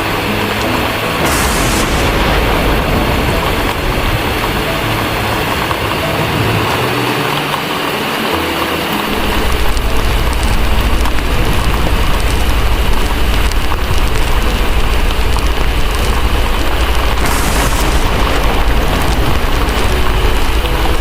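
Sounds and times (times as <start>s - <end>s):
deep low rumble: 0.0s - 7.0s, 9.3s - 21.0s
fireplace crackling: 0.0s - 21.0s
heavy rain falling: 0.0s - 21.0s.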